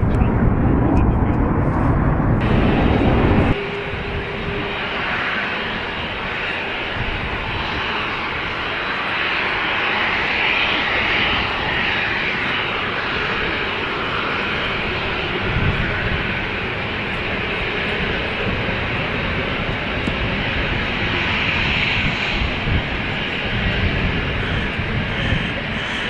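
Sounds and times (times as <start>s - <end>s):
airliner engine rushing: 0.0s - 26.0s.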